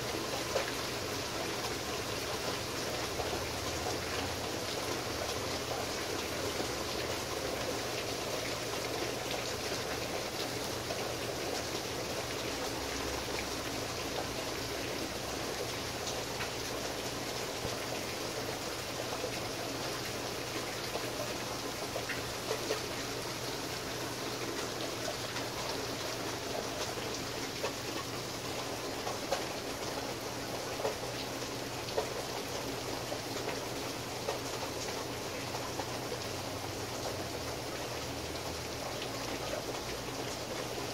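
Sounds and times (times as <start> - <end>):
steady rain: 0.0 - 40.9
raindrops tapping close by: 0.1 - 40.9.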